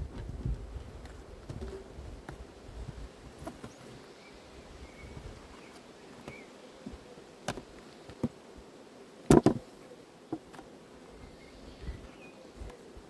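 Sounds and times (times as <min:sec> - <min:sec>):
bees buzzing: 0:01.6 - 0:13.0.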